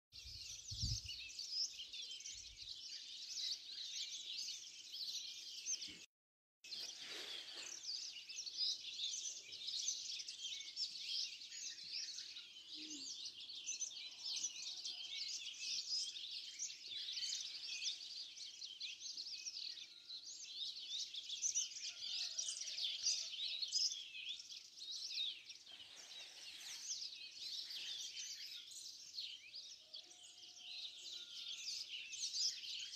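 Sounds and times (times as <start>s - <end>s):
birds chirping and trilling: 0.2s - 6.1s, 6.7s - 32.9s.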